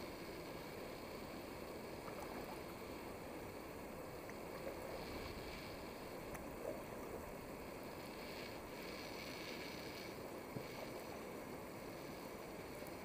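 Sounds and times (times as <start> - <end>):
low hiss of water: 0.0 - 13.0.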